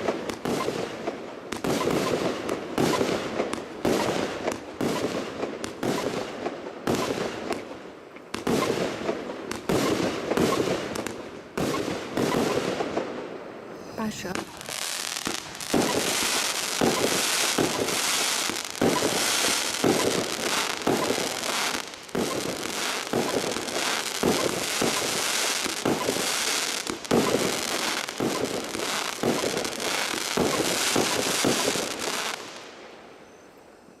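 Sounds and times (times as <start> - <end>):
firework bangs and crackling: 0.0 - 33.0.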